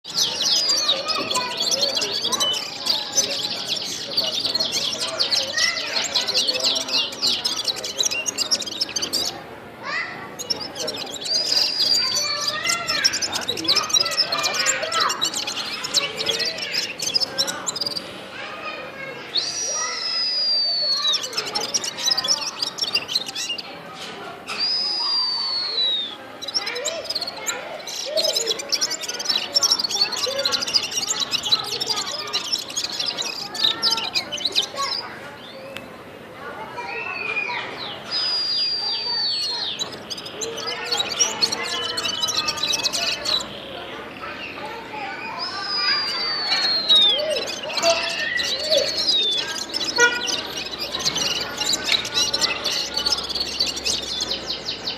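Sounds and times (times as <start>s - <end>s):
songbird singing: 0.0s - 36.2s, 36.8s - 54.9s.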